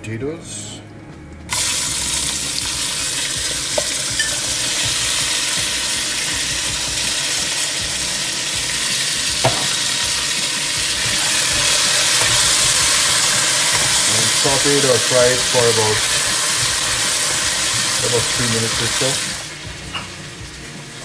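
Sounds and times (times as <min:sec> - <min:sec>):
potatoes sizzling in hot oil: 0:01.5 - 0:21.0.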